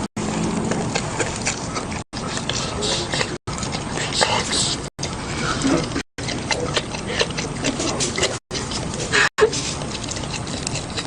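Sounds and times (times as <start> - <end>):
dog chewing wet smacking: 0.4 - 4.2, 5.0 - 11.0.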